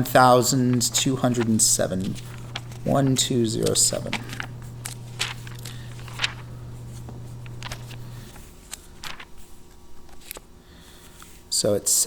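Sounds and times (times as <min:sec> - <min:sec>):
pages rustling: 0:00.0 - 0:11.5
low steady hum: 0:00.0 - 0:12.0.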